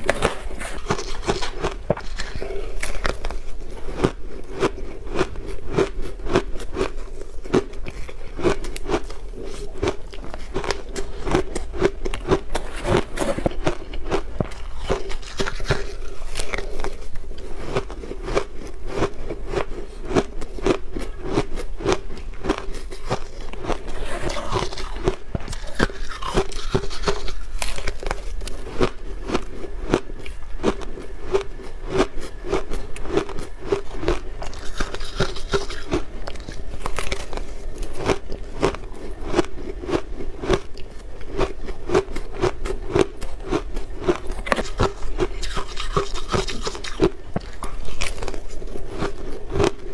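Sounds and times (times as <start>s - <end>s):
ice crunching while chewed: 0.0s - 49.9s.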